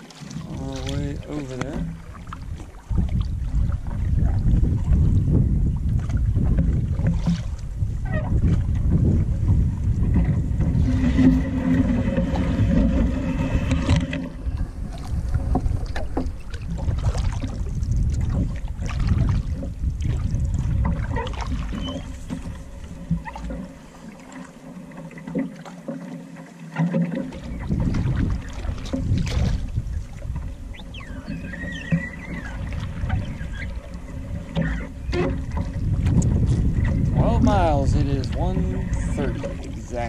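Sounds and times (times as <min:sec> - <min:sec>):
wind rumble on microphone: 0:00.0 - 0:24.0, 0:27.2 - 0:40.0
paddle knocking hull: 0:00.0 - 0:40.0.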